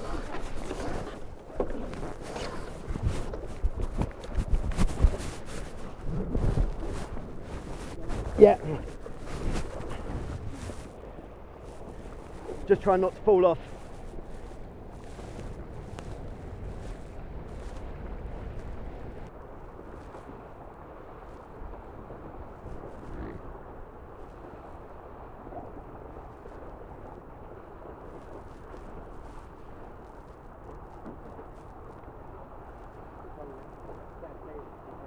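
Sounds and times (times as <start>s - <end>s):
wind rushing over microphone: 0.0s - 29.6s
water rushing past hulls: 0.0s - 35.0s.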